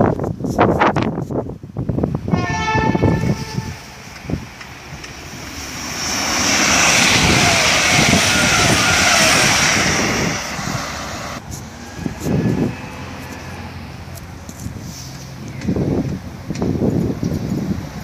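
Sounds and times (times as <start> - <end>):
train passing at speed: 1.9 - 18.0.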